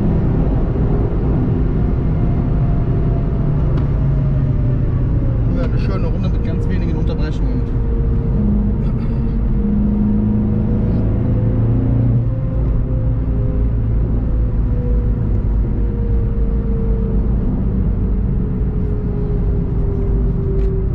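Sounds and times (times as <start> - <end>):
car engine at part throttle: 0.0 - 20.9
low road rumble: 0.0 - 20.9.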